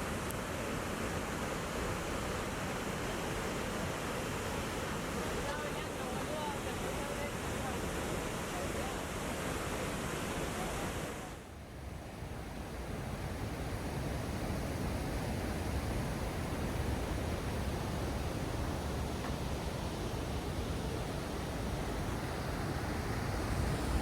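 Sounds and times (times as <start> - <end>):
falling water rushing: 0.0 - 11.4, 15.9 - 24.0.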